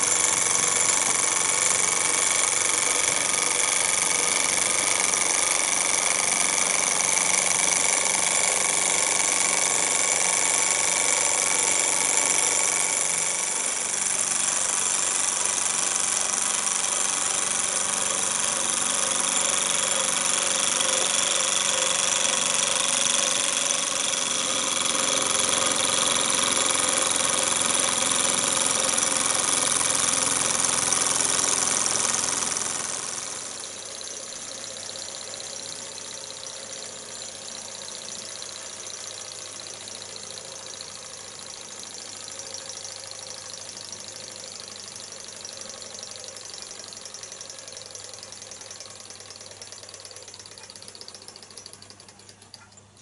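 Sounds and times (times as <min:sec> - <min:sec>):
small engine mechanical running: 0:00.0 - 0:53.0.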